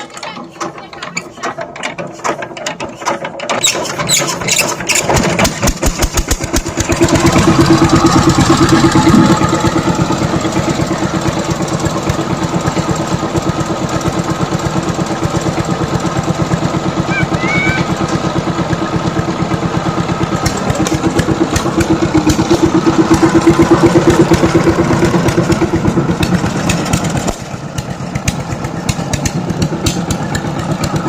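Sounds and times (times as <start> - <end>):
tiller engine cranking and running: 0.0 - 31.0.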